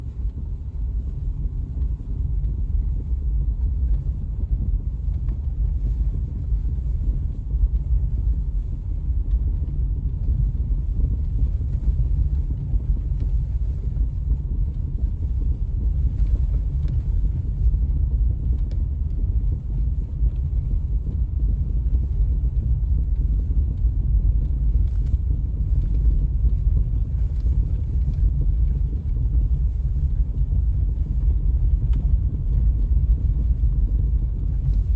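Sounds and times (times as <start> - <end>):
vehicle rumble: 0.0 - 34.9.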